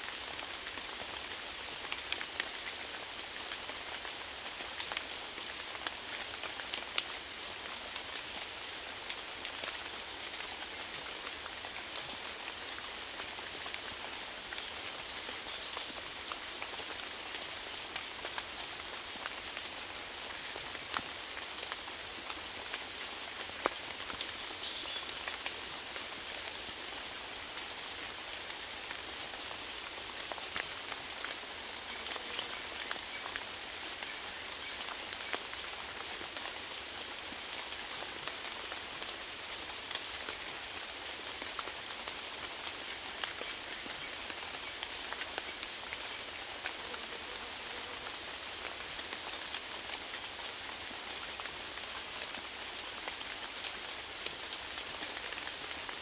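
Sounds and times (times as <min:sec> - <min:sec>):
rain pattering on a hard surface: 0:00.0 - 0:56.0.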